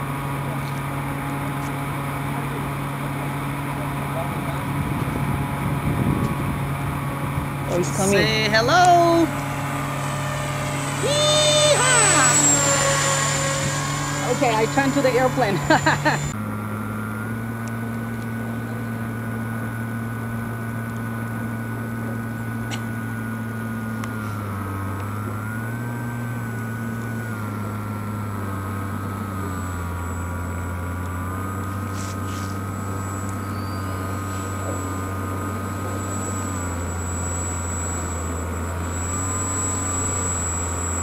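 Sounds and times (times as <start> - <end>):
model plane motor and propeller: 0.0 - 41.0
thin high whine: 0.4 - 41.0.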